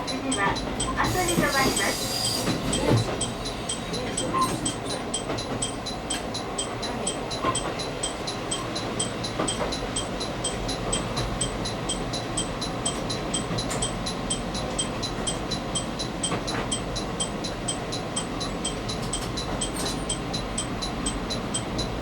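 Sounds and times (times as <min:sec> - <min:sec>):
railcar rumbling: 0:00.0 - 0:22.0.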